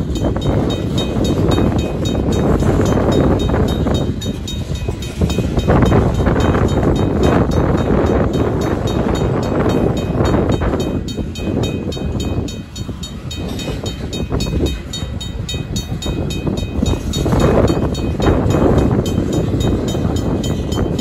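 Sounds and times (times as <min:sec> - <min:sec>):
crossing bell ringing: 0:00.0 - 0:21.0
freight train wheels rumbling on rails: 0:00.0 - 0:21.0.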